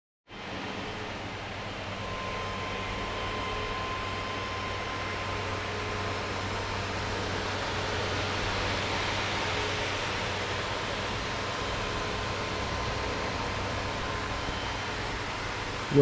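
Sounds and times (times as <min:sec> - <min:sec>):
cooling fans whooshing: 0:00.3 - 0:16.0
faint steady whine: 0:00.3 - 0:16.0
low electrical hum: 0:00.3 - 0:16.0.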